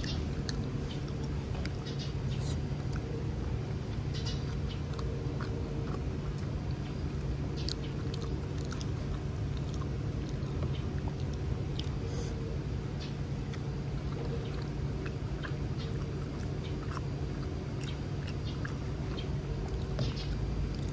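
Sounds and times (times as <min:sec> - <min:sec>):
close-up chewing: 0:00.0 - 0:12.4, 0:13.0 - 0:20.9
steady low hum: 0:00.0 - 0:20.9.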